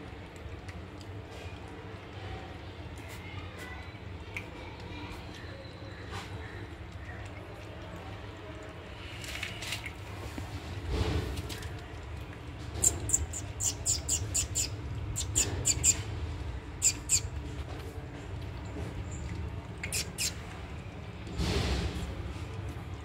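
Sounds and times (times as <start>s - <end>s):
puppies lapping and chewing wet food: 0.0s - 23.0s.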